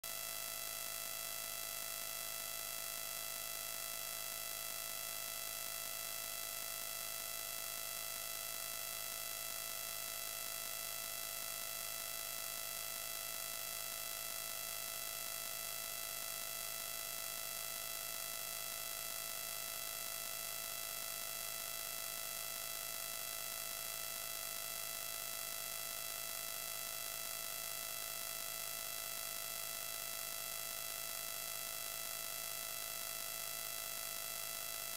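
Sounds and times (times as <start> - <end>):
high buzzing whine: 0.0 - 34.9.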